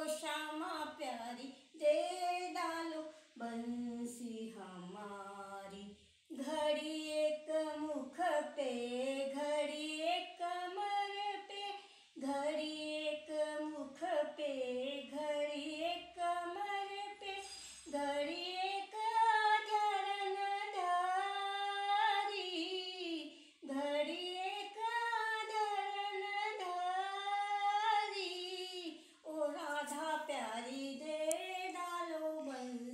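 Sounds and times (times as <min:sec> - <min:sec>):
woman singing unaccompanied: 0:00.0 - 0:32.9.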